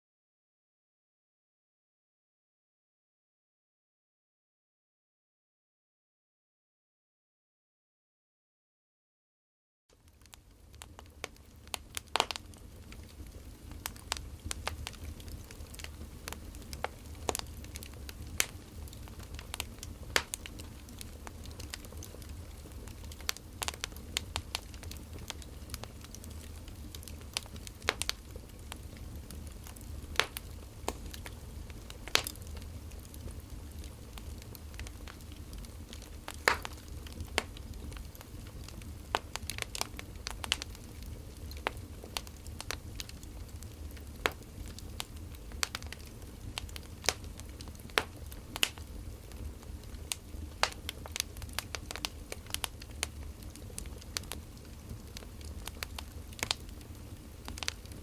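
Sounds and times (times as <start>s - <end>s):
low steady fire rumble: 9.9s - 58.0s
wood fire crackling and popping: 9.9s - 58.0s.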